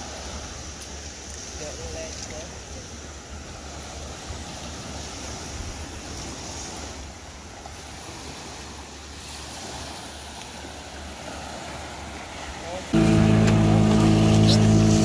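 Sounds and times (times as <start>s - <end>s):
waves on a pebble beach: 0.0s - 15.0s.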